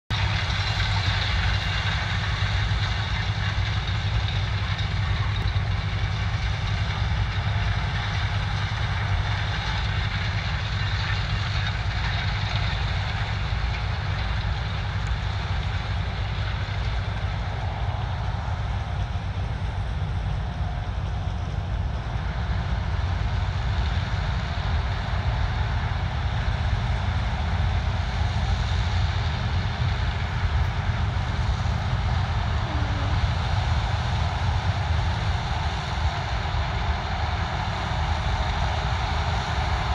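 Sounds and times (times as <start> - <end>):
combine harvester drone: 0.1 - 39.9.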